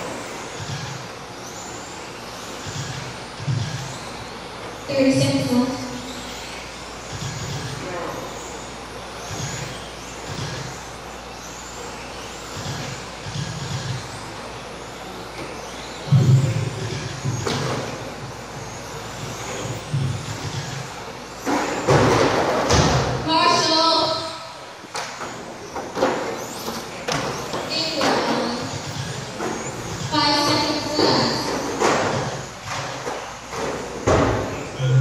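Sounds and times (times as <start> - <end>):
rc cars whining past: 0.0 - 35.0.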